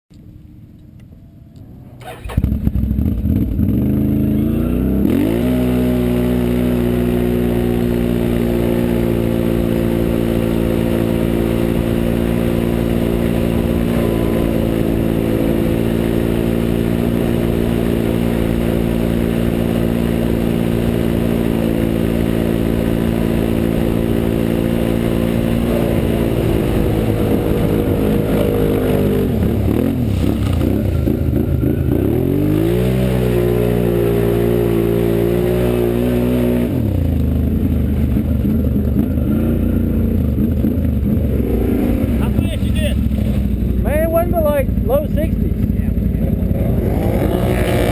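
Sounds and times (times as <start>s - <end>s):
engine running at high revs: 2.0s - 47.9s.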